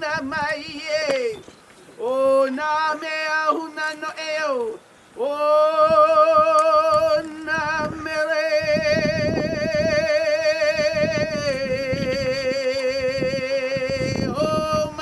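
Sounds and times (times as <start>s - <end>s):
wind rumbling on microphone: 0.0s - 15.0s
person chanting with vibrato: 2.0s - 15.0s.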